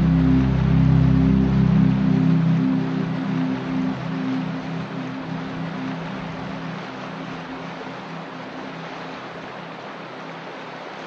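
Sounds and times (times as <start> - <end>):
ambient synthesizer music: 0.0 - 10.2
river rapids rushing: 0.0 - 11.0.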